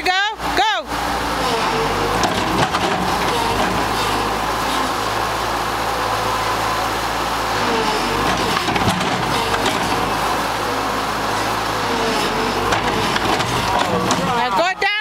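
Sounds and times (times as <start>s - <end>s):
diesel loader engine under load: 0.0s - 15.0s.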